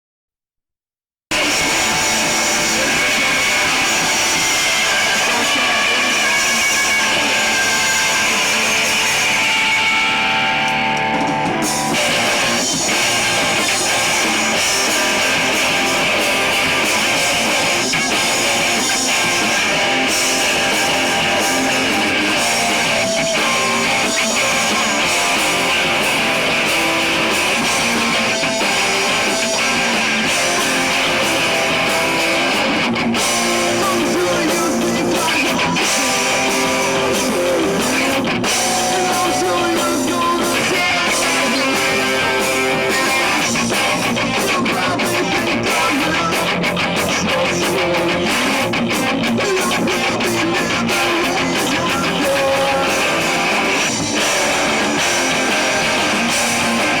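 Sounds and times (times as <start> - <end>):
rock band playing live: 1.3 - 57.0.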